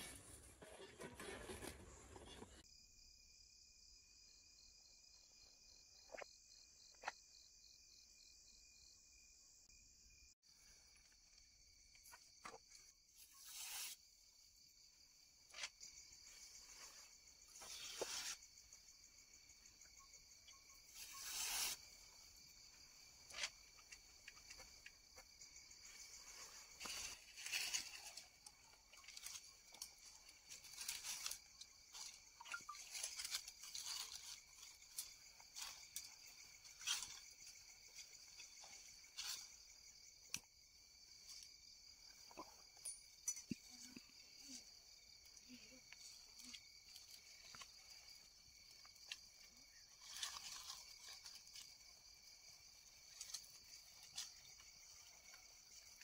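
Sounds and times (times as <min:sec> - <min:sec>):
insects chirring: 0:02.2 - 0:56.0.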